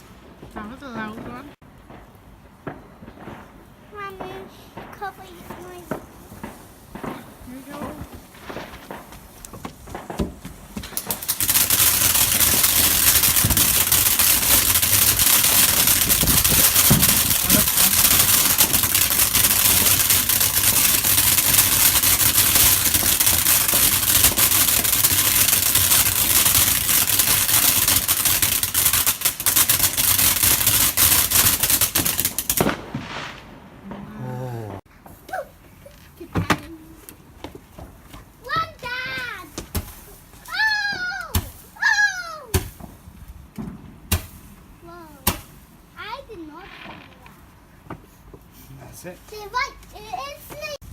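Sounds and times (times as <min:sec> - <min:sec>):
firework crackling: 0:00.0 - 0:47.6, 0:49.0 - 0:50.9.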